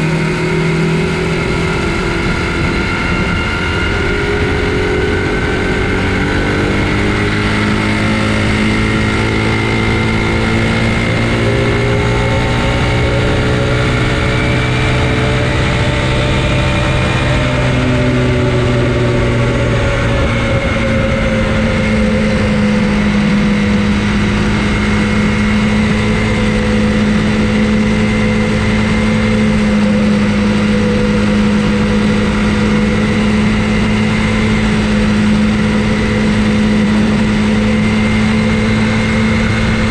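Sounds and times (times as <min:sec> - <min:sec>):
electric motor whine: 0:00.0 - 0:39.9
wind and rolling noise: 0:00.0 - 0:39.9.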